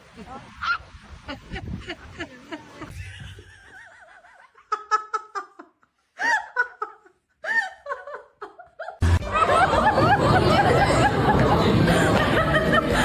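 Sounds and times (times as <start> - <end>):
person laughing: 1.3 - 13.0.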